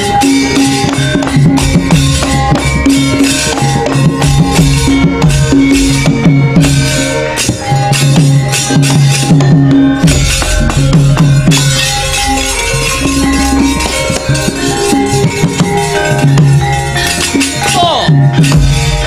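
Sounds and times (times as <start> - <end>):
hand drum strokes bending in pitch: 0.0 - 19.0
sustained metallophone notes: 0.0 - 19.0.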